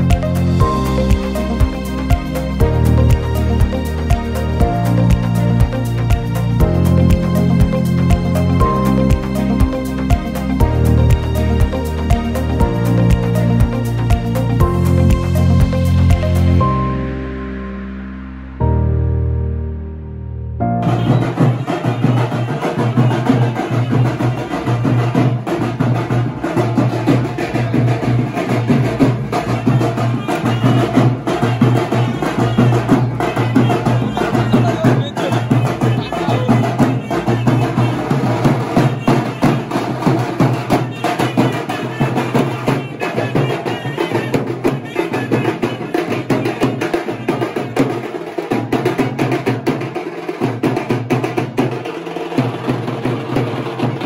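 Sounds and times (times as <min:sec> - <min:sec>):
drummers playing fast rhythm: 0:00.0 - 0:16.6, 0:20.8 - 0:54.0.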